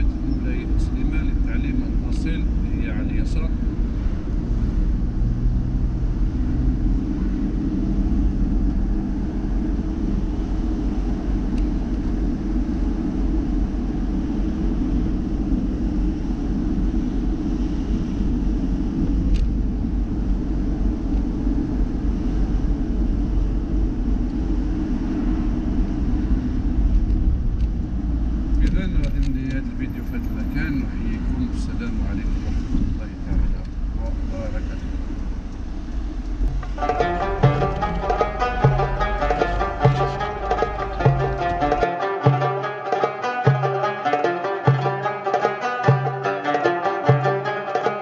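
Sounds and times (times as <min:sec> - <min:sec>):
car engine and tyre noise: 0:00.0 - 0:48.0.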